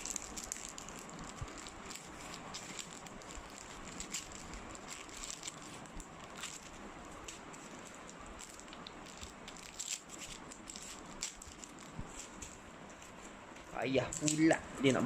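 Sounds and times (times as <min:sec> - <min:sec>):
packaging crinkling: 0:00.0 - 0:13.2.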